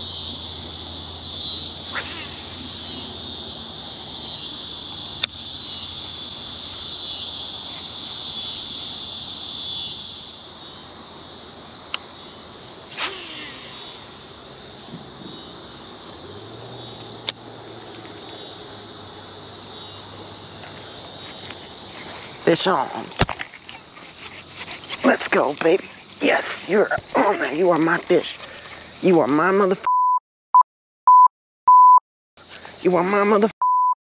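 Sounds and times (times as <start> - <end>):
insects buzzing: 0.0 - 29.8.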